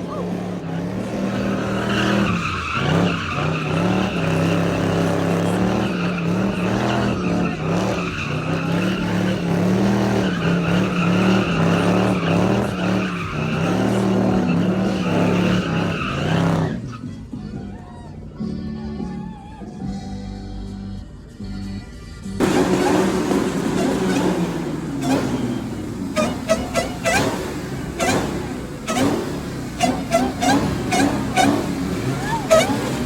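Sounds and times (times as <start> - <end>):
car engine at high revs: 0.0 - 17.0, 22.4 - 33.0
tires screeching: 0.0 - 17.4, 22.4 - 33.0.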